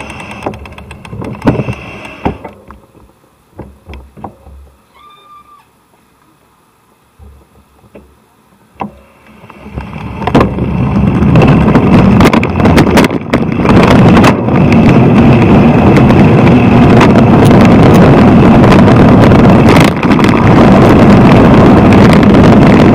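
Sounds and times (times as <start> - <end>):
wind buffeting microphone: 0.0 - 4.8, 8.8 - 22.9
road rumble: 0.0 - 22.9.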